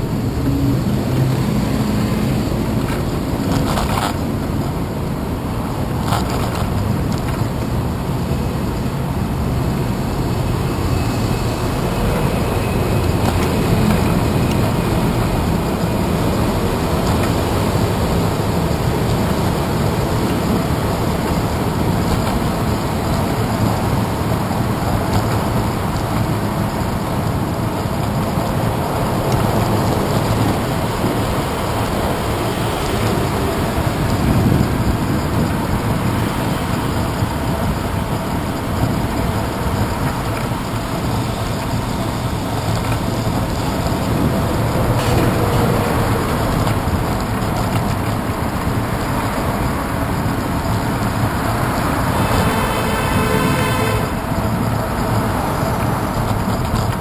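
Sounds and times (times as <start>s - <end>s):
tyre and road rumble: 0.0s - 57.0s
wind over camera: 0.0s - 57.0s.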